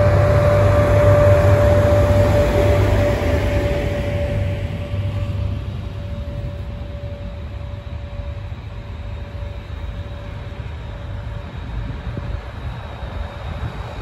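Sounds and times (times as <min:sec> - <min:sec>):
faint steady whine: 0:00.0 - 0:14.0
train wheels rumbling on track: 0:00.0 - 0:14.0.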